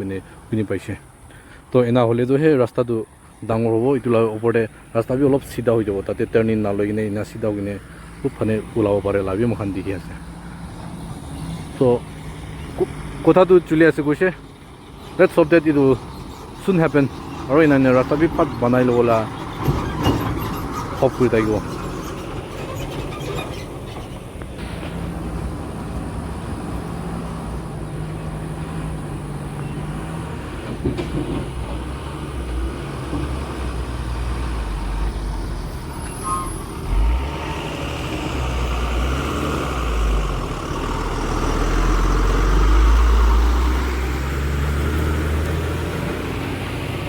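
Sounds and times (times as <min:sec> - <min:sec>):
trucks passing on highway: 0:00.0 - 0:47.0.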